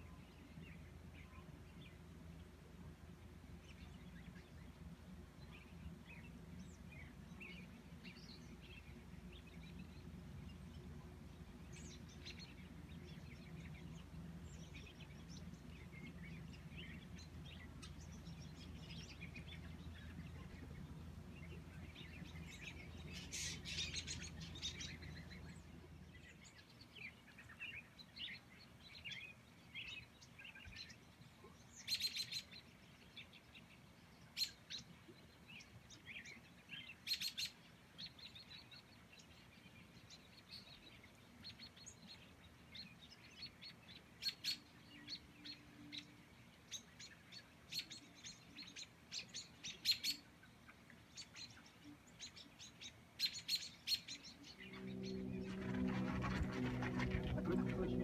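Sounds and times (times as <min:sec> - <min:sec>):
faint low hum: 0:00.0 - 0:58.0
small birds chirping: 0:00.0 - 0:58.0.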